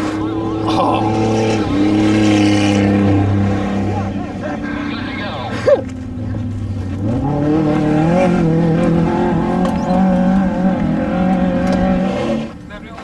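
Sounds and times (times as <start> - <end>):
truck engine revving: 0.0 - 12.6.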